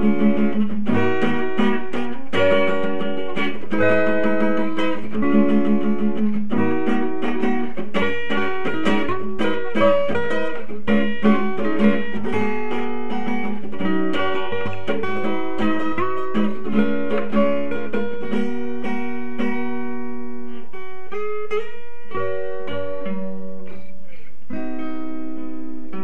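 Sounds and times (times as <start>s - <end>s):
guitar plucking and strumming: 0.0s - 26.0s.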